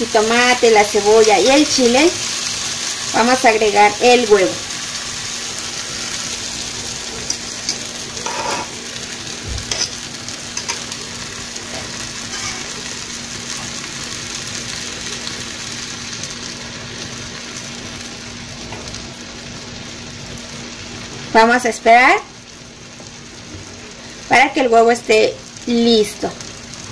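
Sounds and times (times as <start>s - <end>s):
eggs sizzling in a frying pan: 0.0s - 26.9s.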